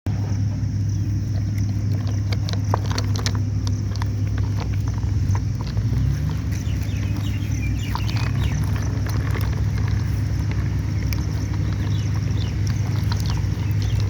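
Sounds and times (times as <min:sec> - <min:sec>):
low engine drone: 0:00.1 - 0:14.0.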